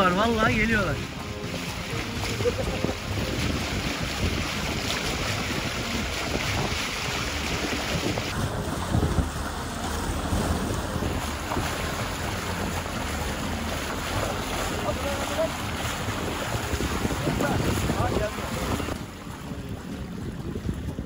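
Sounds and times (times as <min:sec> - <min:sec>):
water washing past hull: 0:00.0 - 0:21.0
wind buffeting microphone: 0:00.0 - 0:21.0.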